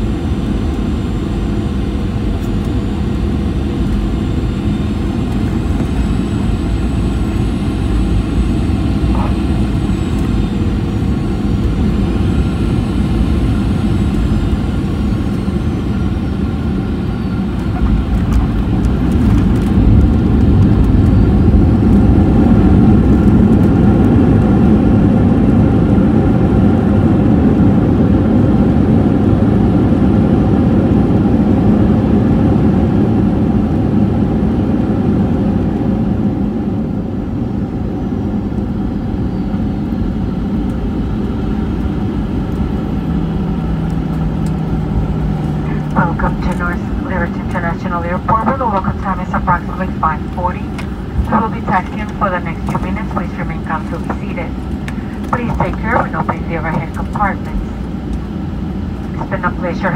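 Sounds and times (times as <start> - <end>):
high engine whine: 0.0 - 59.9
jet engine and airflow rush: 0.0 - 59.9.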